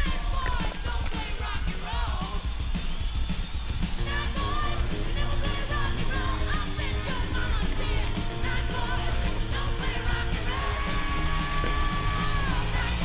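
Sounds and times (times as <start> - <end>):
rock music with singing: 0.0 - 13.0.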